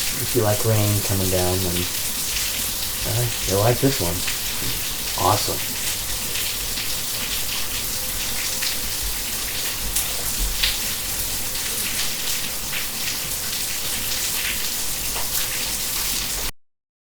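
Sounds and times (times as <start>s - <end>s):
steady rain falling: 0.0s - 16.5s.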